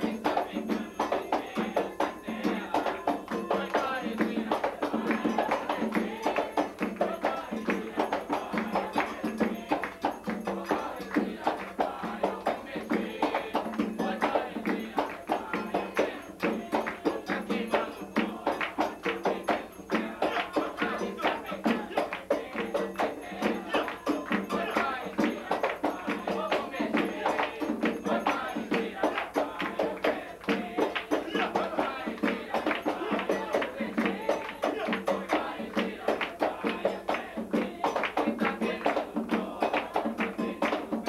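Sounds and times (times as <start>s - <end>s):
drums in fast rhythm: 0.0s - 41.0s
people singing: 0.0s - 41.0s
sharp hand-clapping: 2.8s - 41.0s.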